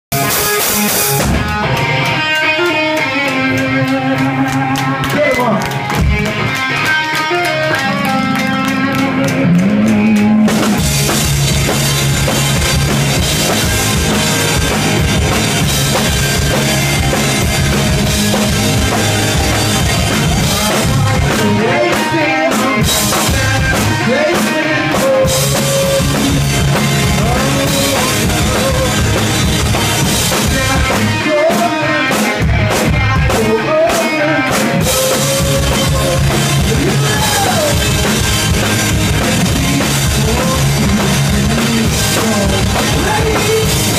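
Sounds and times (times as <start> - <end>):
drum kit: 0.1 - 43.9
electric guitar: 0.1 - 43.9
live rock band playing: 0.1 - 43.9.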